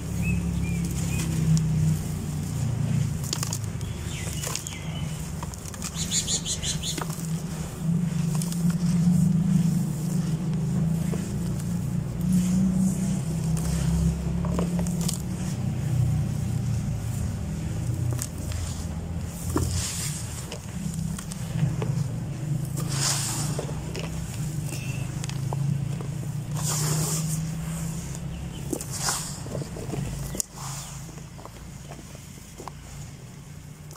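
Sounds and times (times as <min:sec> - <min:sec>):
low rumble: 0:00.0 - 0:31.6
hands raking dry dirt: 0:00.0 - 0:33.9
sand swishing: 0:00.0 - 0:33.9.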